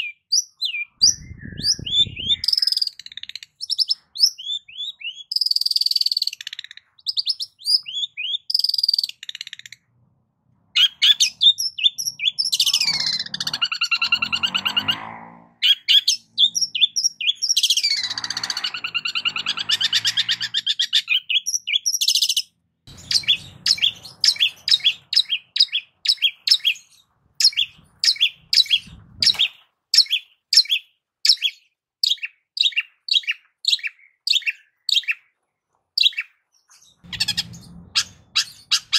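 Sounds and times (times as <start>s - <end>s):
bird singing: 0.0s - 9.9s, 10.7s - 35.4s, 36.0s - 38.9s.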